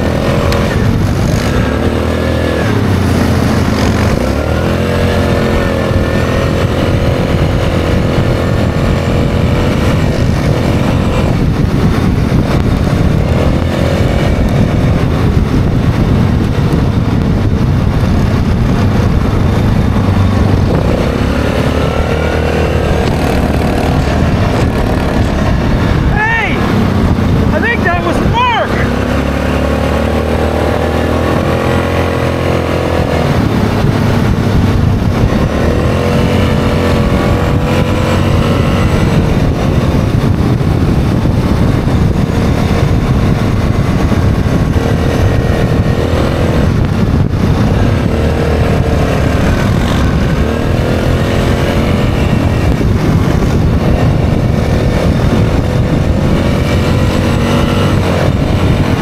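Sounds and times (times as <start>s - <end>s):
atv engine running: 0.0s - 59.0s
tyre and wind noise on gravel: 0.0s - 59.0s.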